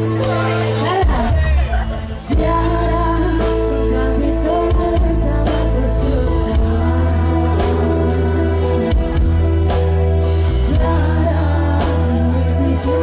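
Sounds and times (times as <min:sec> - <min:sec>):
woman singing into a microphone: 0:00.0 - 0:09.4, 0:10.6 - 0:13.0
band playing through pa system: 0:00.0 - 0:13.0.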